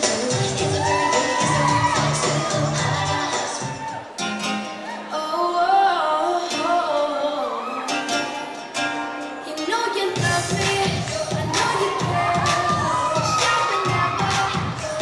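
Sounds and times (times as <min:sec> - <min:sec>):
song with vocals and beat: 0:00.0 - 0:15.0.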